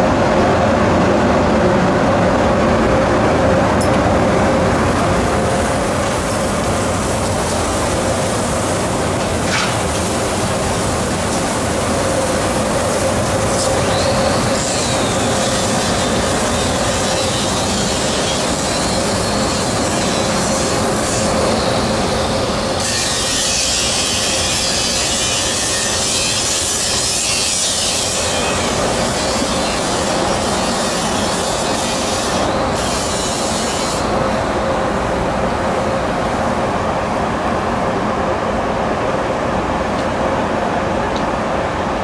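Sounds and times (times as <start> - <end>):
rail-grinding machine hum: 0.0 - 42.0.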